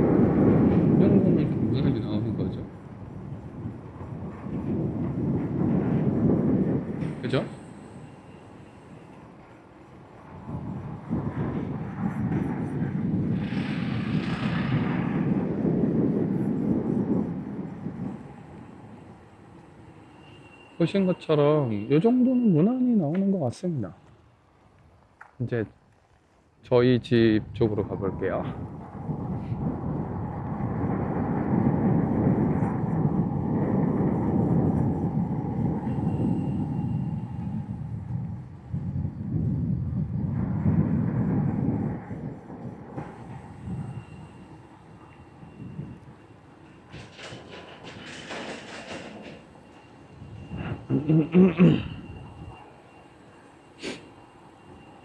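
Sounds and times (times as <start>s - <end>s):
electric bike rumbling ride: 0.0s - 22.4s, 24.0s - 55.0s
wind buffeting microphone: 0.0s - 53.4s.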